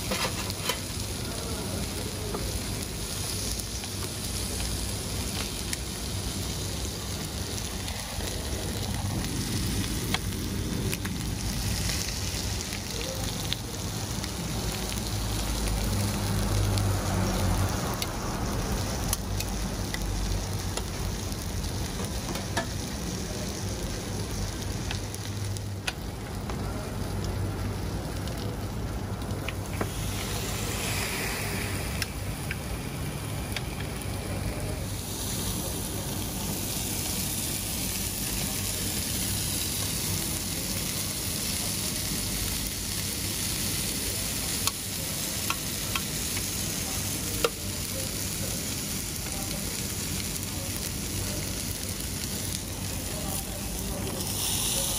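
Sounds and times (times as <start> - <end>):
prawns sizzling on grill: 0.0 - 54.9
small frying pops: 0.0 - 54.9.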